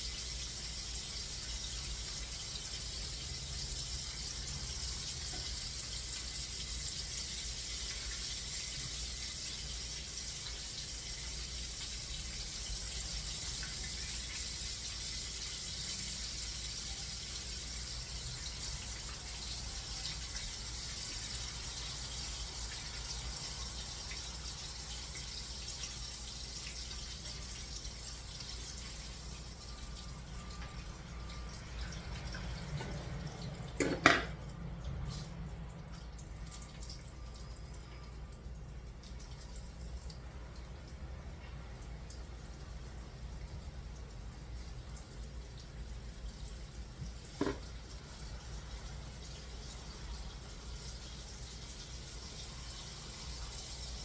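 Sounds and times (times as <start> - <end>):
chicken frying in hot oil: 0.0 - 54.0.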